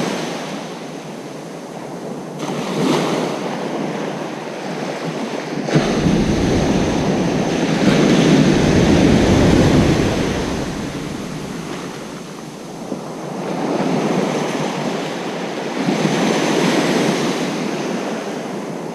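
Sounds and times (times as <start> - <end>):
waves breaking on a beach: 0.0 - 18.9.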